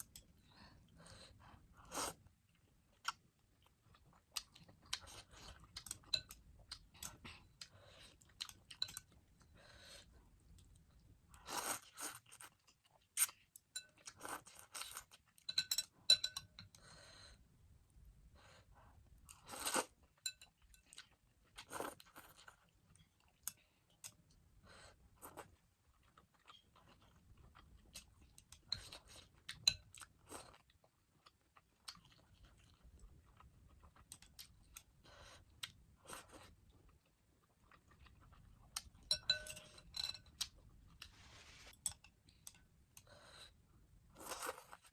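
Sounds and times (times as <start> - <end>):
person chewing noodles: 0.0 - 15.4, 20.8 - 44.9.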